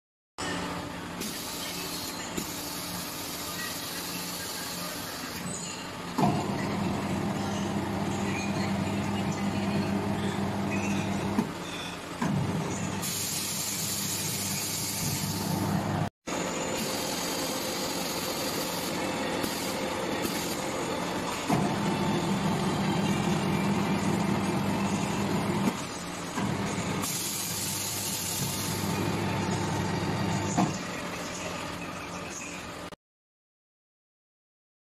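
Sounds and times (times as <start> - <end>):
machine humming: 0.6 - 30.6.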